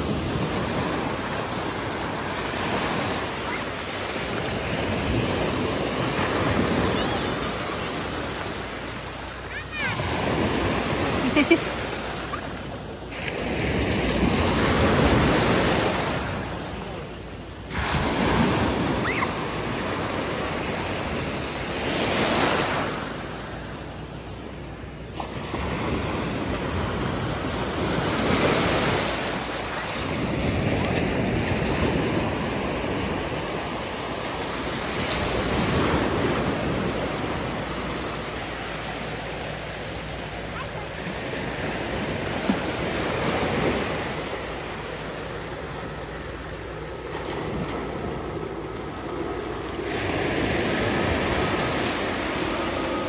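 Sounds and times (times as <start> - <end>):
small waves breaking on beach: 0.0 - 53.0.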